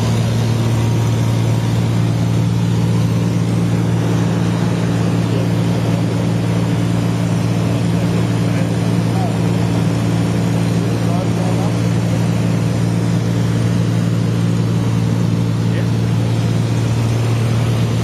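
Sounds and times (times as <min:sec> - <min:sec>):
light aircraft engine droning: 0:00.0 - 0:18.0.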